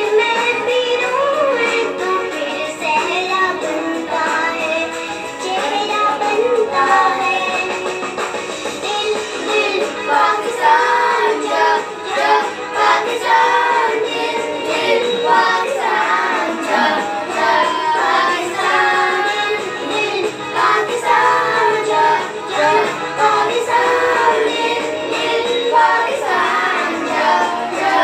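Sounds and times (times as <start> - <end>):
children singing together: 0.0 - 7.8, 8.8 - 28.0
music playing: 0.0 - 28.0.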